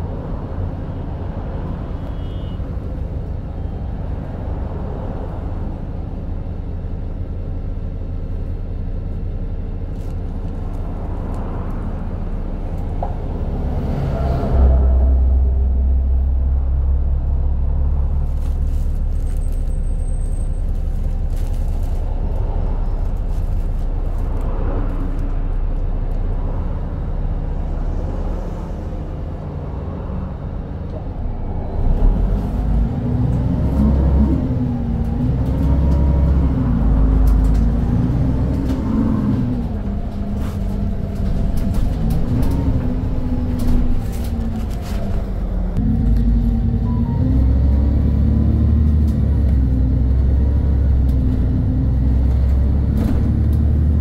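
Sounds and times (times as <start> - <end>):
bus engine rumble: 0.0 - 54.0.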